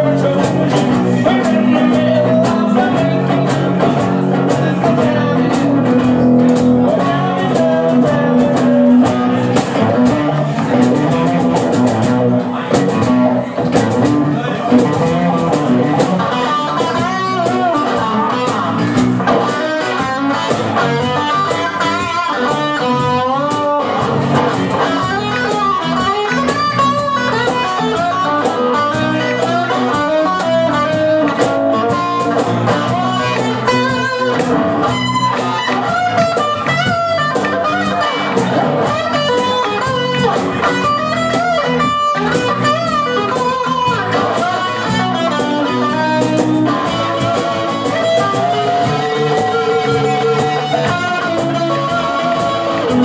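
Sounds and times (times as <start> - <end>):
electric bass: 0.0 - 53.0
electric guitar lead: 0.0 - 53.0.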